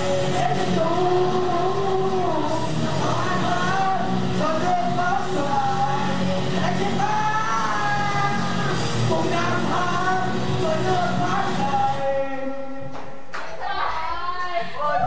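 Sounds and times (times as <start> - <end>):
man singing into a microphone: 0.0 - 13.1
karaoke backing music: 0.0 - 15.0.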